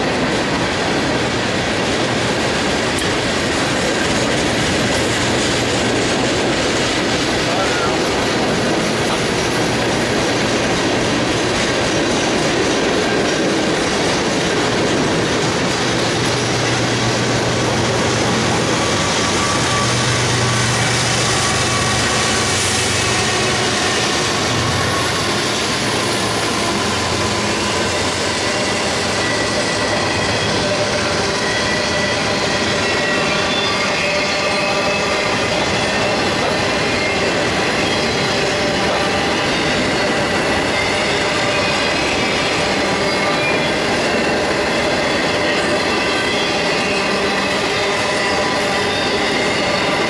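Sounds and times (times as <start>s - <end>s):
freight train wheels rumbling: 0.0s - 50.0s
low diesel locomotive drone: 0.0s - 50.0s.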